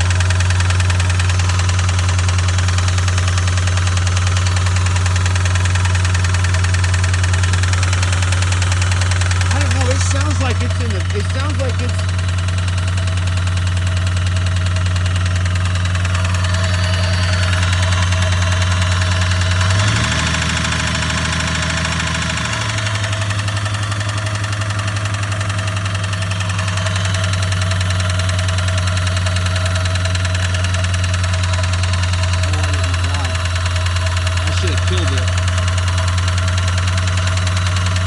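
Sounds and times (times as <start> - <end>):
car engine idling with knock: 0.0 - 38.0.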